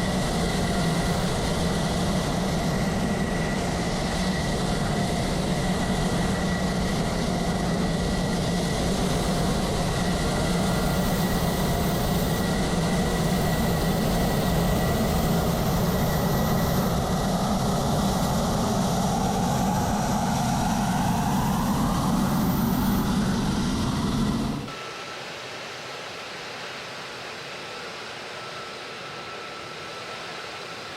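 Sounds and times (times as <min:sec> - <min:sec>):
jet engine whine: 0:00.0 - 0:30.9.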